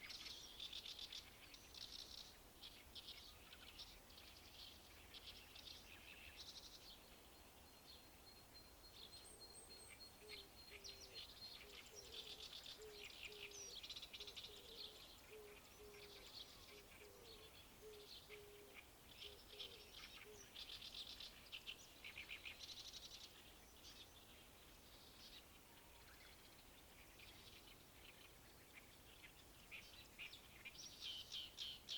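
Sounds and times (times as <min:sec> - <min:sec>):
songbirds chirping: 0:00.0 - 0:31.9.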